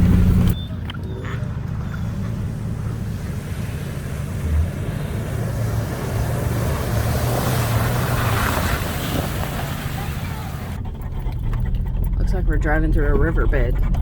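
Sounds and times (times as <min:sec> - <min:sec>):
off-road vehicle engine running: 0:00.0 - 0:14.0
tyres splashing through water: 0:00.0 - 0:14.0.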